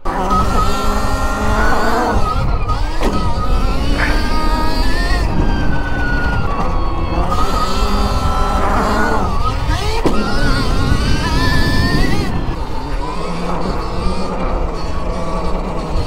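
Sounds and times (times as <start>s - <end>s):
electric motorbike motor whining: 0.0s - 16.0s.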